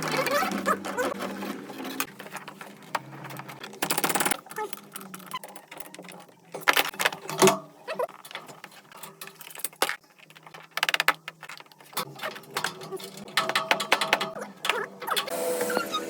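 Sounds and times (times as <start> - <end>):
mechanical clicking and rattling: 0.0 - 15.4.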